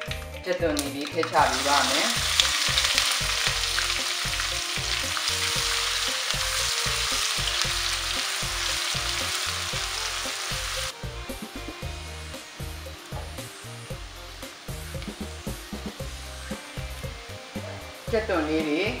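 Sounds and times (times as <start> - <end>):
onion sizzling in hot oil: 0.0 - 19.0.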